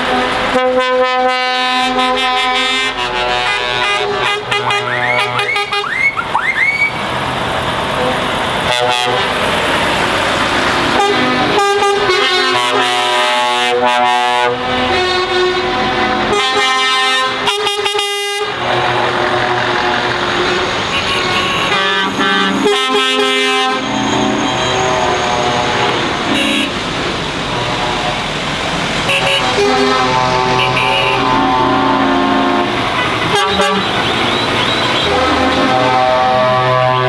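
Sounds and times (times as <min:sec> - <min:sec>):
lorry engines driving past: 0:00.0 - 0:37.0
multi-note air horn blasts: 0:00.1 - 0:06.9, 0:08.7 - 0:09.5, 0:11.0 - 0:26.8, 0:29.1 - 0:37.0.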